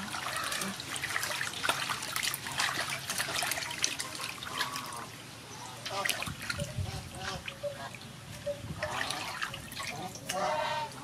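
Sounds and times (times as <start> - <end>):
water splashing in metal basin: 0.0 - 8.0, 8.7 - 11.0.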